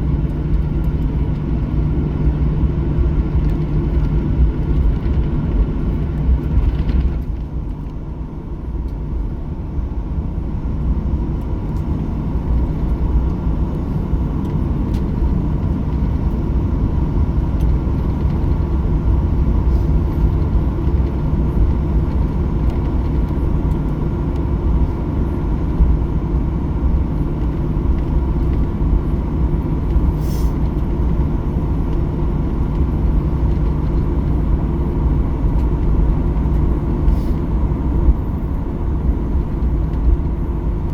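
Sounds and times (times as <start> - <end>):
aircraft cabin rumble: 0.0 - 40.9.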